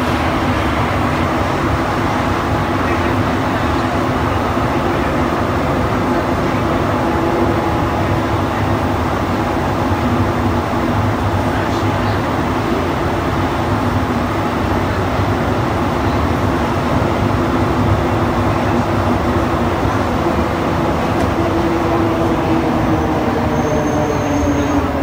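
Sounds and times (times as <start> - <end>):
train rumbling through tunnel: 0.0 - 25.0.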